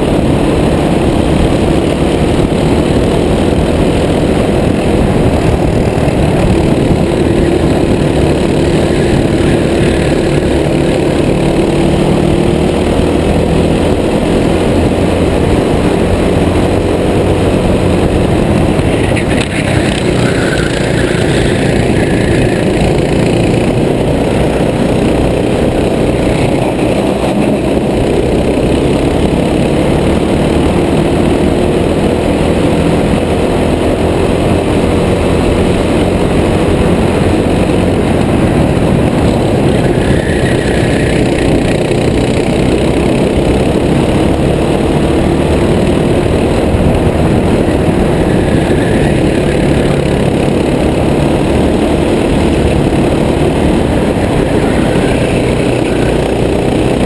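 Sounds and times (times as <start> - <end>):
kart engine running hard: 0.0 - 57.0.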